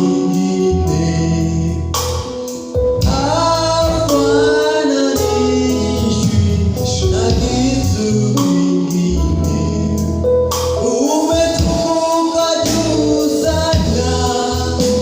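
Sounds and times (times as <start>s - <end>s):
gospel singing: 0.0s - 15.0s
instrumental backing music: 0.0s - 15.0s.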